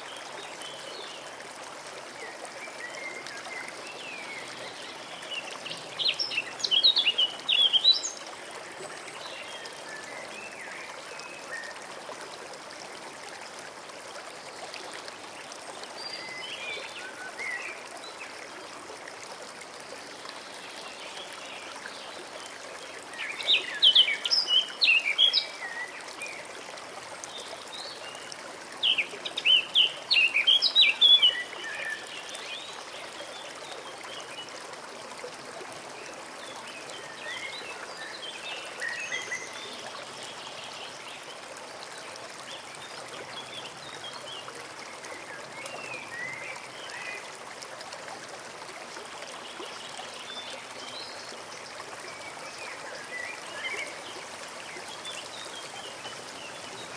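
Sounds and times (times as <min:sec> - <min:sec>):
small stream running: 0:00.0 - 0:56.9.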